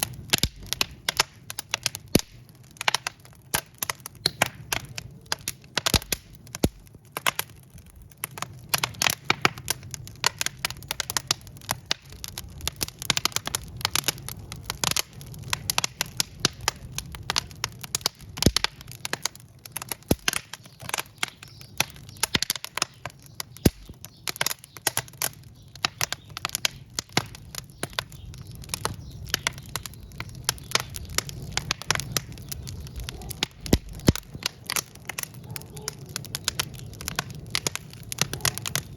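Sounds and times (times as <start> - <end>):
logs crackling and popping: 0.0 - 38.9
low rumble of flames: 0.0 - 38.9.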